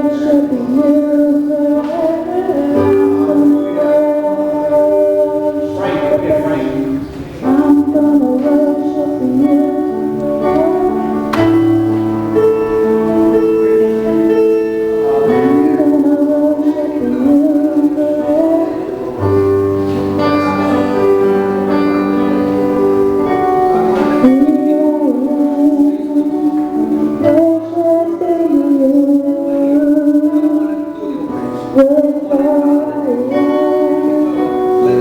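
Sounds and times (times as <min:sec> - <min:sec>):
keyboard chords: 0:00.0 - 0:35.0
person singing: 0:00.0 - 0:35.0.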